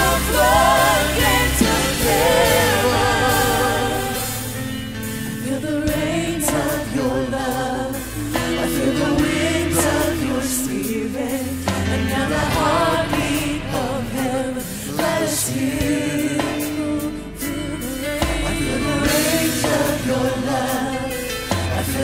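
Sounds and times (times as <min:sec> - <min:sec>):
voices singing: 0:00.0 - 0:04.7, 0:05.3 - 0:22.0
praise band playing: 0:00.0 - 0:22.0.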